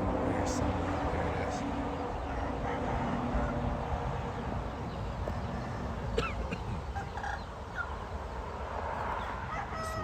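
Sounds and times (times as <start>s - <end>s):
wind buffeting microphone: 0.0s - 9.5s
chickens calling: 0.0s - 10.0s.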